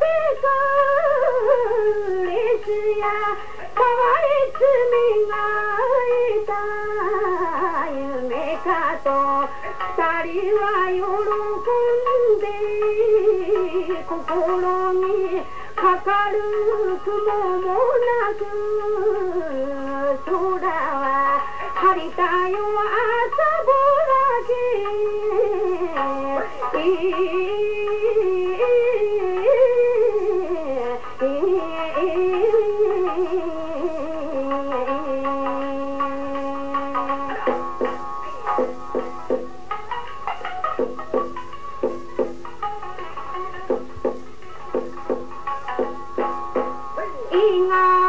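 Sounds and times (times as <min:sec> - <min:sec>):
woman singing folk song: 0:00.0 - 0:39.4, 0:45.8 - 0:48.0.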